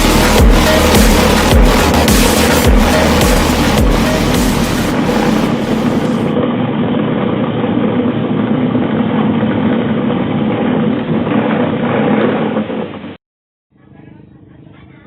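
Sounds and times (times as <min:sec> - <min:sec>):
washing machine motor humming: 0:00.0 - 0:13.2.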